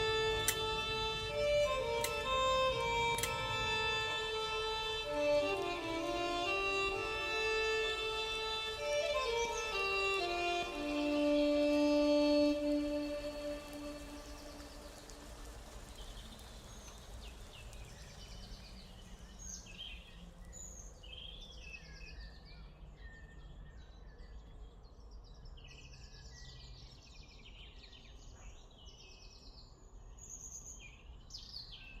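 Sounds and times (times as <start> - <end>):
songbirds singing and chirping: 0.0 - 32.0.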